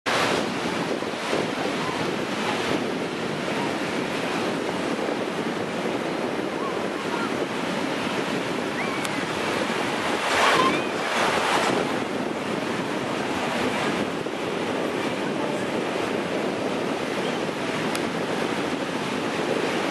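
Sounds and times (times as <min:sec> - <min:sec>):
small waves breaking on beach: 0:00.1 - 0:19.9
wind buffeting microphone: 0:00.1 - 0:19.9.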